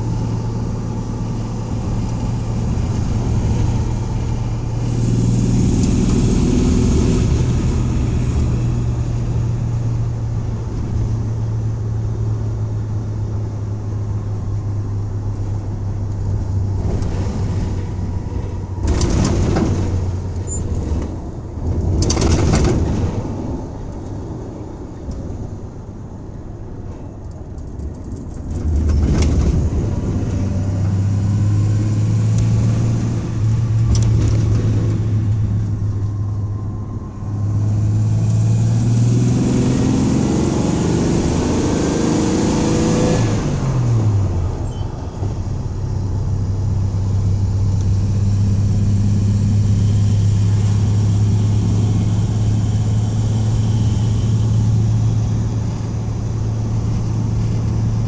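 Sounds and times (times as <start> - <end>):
van engine revving: 0.0 - 23.5, 28.5 - 58.0.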